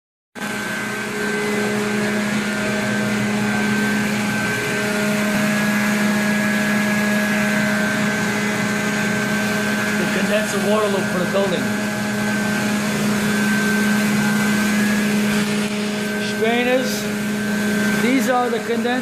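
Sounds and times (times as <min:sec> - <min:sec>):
water pumps humming: 0:00.4 - 0:19.0.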